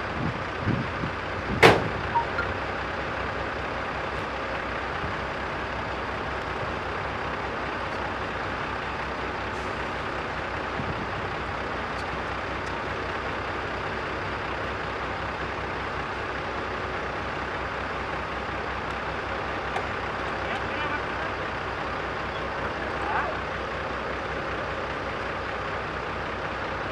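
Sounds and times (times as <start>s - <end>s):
diesel engine running steadily: 0.0s - 26.9s.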